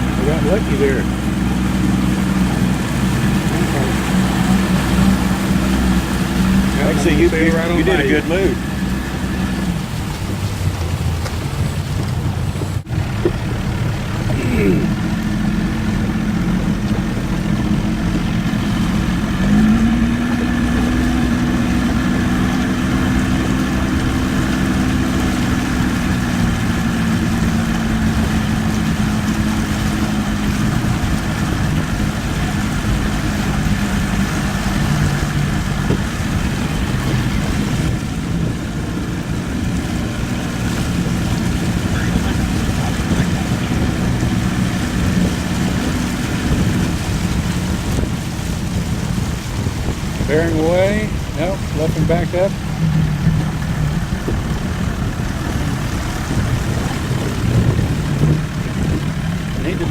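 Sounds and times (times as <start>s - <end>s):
motorboat engine running: 0.0s - 59.9s
water noise: 0.0s - 59.9s
wind: 0.0s - 59.9s.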